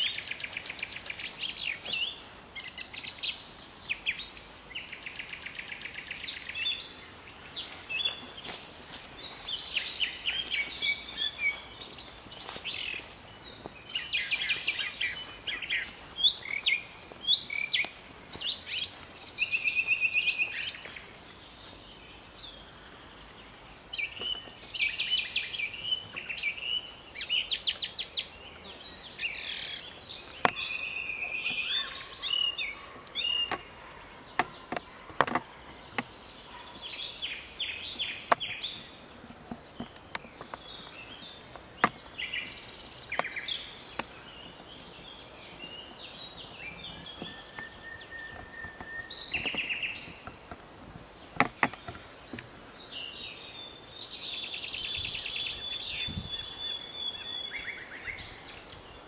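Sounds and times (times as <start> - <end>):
nightingale singing: 0.0 - 59.0
other birds calling: 0.0 - 59.0.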